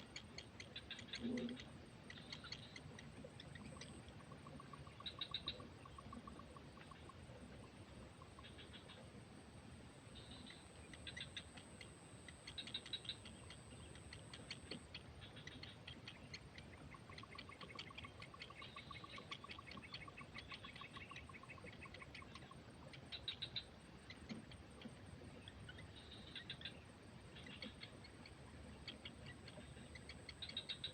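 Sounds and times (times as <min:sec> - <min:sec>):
small bird chirping: 0:00.0 - 0:09.1, 0:10.1 - 0:30.9.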